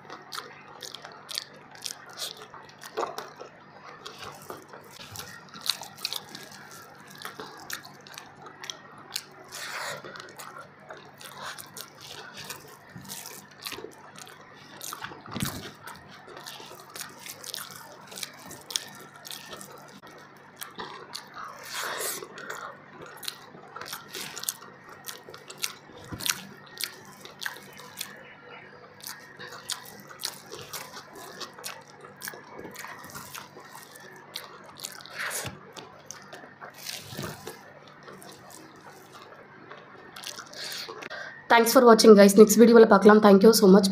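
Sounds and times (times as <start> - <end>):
wet chewing: 0.0 - 41.4
fingers squishing rice: 0.1 - 39.4.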